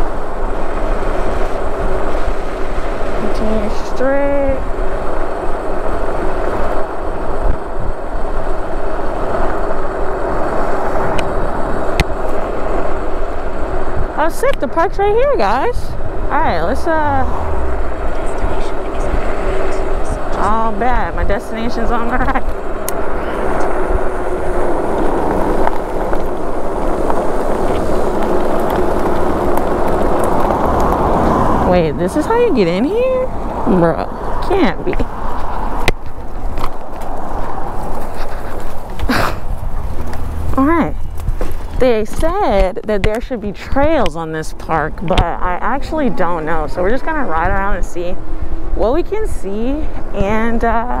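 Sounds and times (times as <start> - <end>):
tyre and road noise: 0.0 - 51.0
wind on microphone: 0.0 - 51.0.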